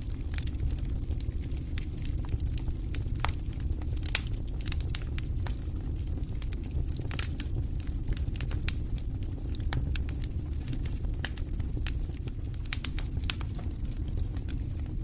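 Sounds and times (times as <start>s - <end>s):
campfire crackling and popping: 0.0s - 15.0s
low rumble: 0.0s - 15.0s.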